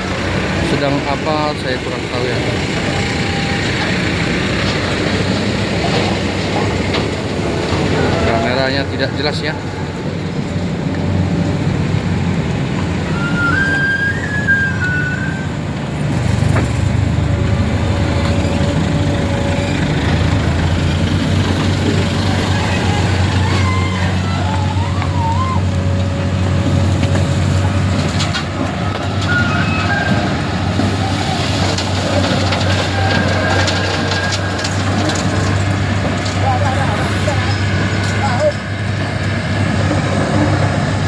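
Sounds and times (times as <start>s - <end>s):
heavy vehicle engine droning: 0.0s - 41.0s.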